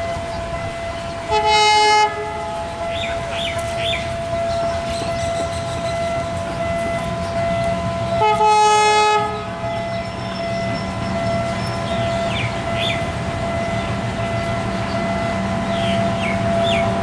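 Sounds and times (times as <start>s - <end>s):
diesel locomotive engine rumble: 0.0s - 17.0s
locomotive horn blast: 0.0s - 17.0s.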